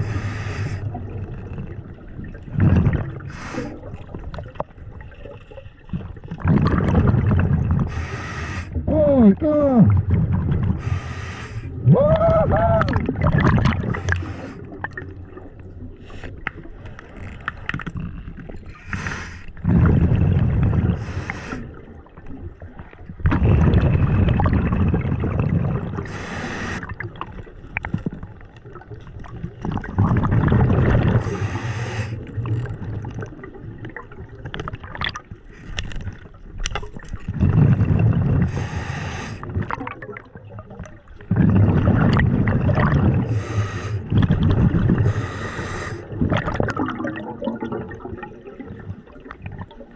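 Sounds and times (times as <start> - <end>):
exhaled bubbles rumbling underwater: 0.0 - 49.9.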